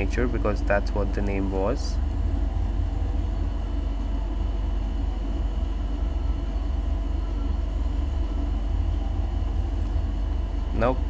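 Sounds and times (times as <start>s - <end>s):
faint even hum: 0.0s - 11.0s
steady low rumble: 0.0s - 11.0s.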